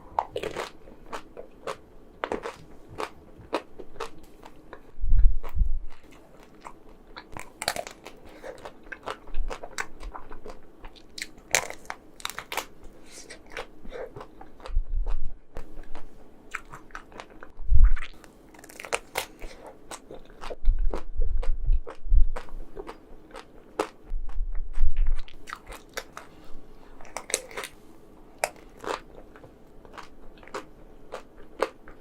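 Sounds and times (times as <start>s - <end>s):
chewing ice cream: 0.2s - 26.3s, 28.4s - 32.0s.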